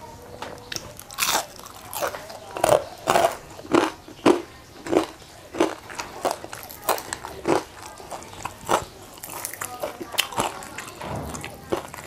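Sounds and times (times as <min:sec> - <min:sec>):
crunching crispy fried chicken: 0:00.6 - 0:12.0.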